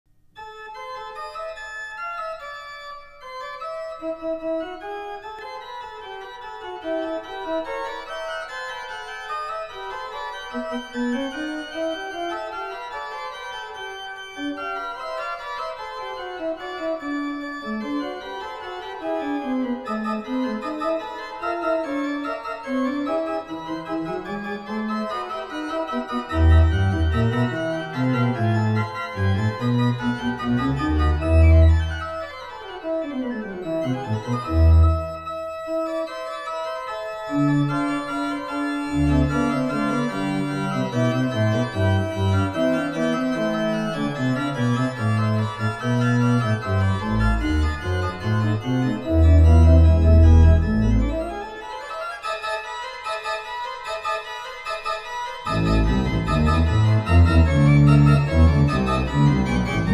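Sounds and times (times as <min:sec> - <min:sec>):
organ music: 0:00.4 - 0:59.9.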